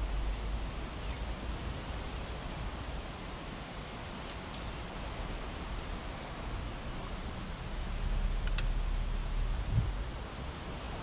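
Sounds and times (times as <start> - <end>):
wind and rustling foliage: 0.0 - 11.0
wind rumble on microphone: 0.0 - 11.0.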